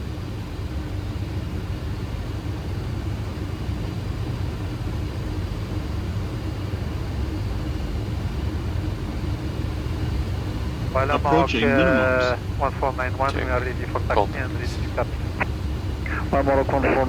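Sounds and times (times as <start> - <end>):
airflow and engines rumbling: 0.0 - 17.0
faint steady hum: 0.0 - 17.0.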